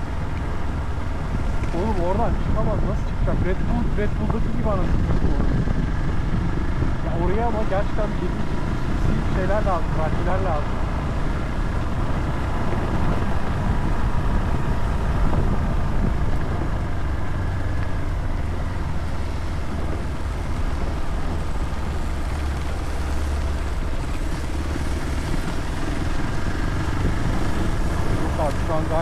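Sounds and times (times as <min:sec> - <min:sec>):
motorcycle engine rumble: 0:00.0 - 0:29.0
road noise: 0:00.0 - 0:29.0.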